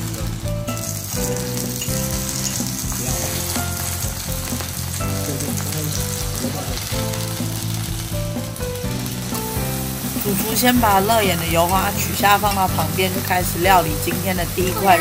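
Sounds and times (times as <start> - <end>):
background music: 0.0 - 15.0
food sizzling on griddle: 0.0 - 15.0.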